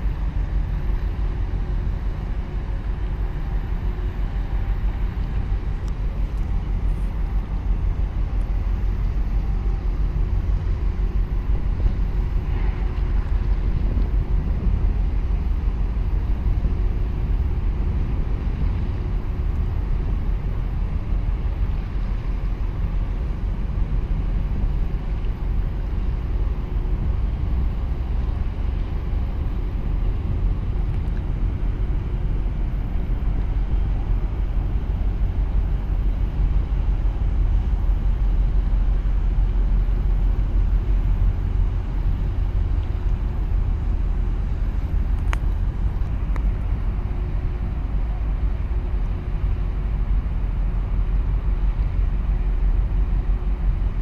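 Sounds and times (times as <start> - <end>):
large ship engine rumble: 0.0 - 54.0
wind buffeting microphone: 0.0 - 54.0.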